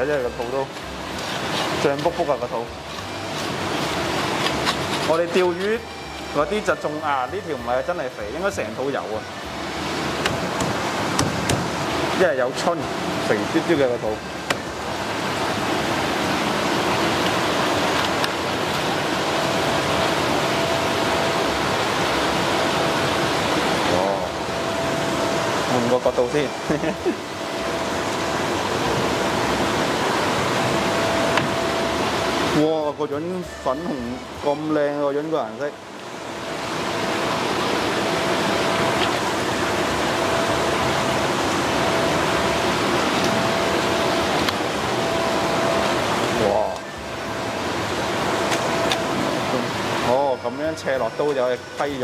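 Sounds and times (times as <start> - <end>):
running water: 0.0 - 52.0.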